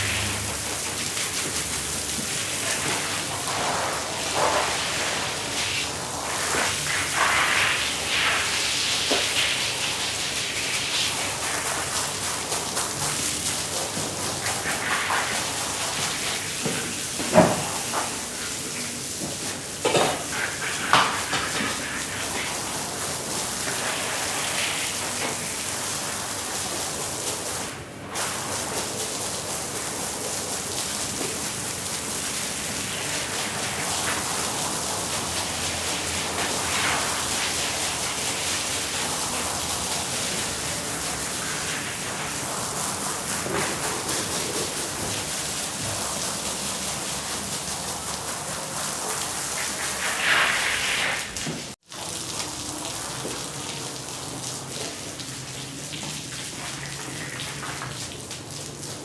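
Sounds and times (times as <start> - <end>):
water spraying onto a rug: 0.0 - 59.0.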